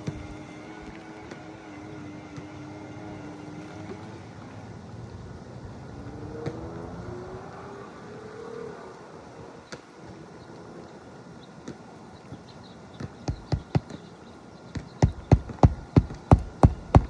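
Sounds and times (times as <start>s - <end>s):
distant engine humming: 0.0s - 17.0s.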